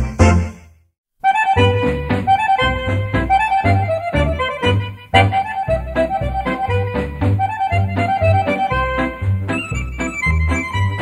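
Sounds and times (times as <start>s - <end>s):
lively accordion melody: 1.2s - 11.0s.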